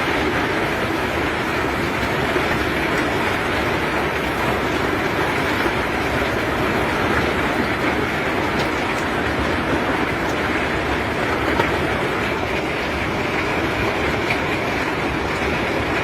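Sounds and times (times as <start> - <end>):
heavy machinery rumble and clatter: 0.0 - 16.0.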